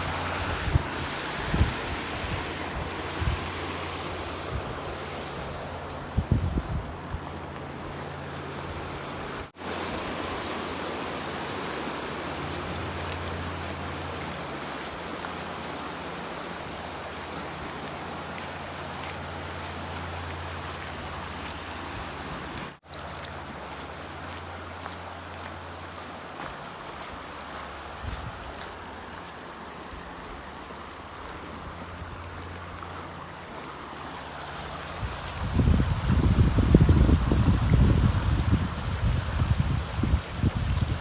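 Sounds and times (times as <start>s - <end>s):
rushing flowing water: 0.0s - 41.0s.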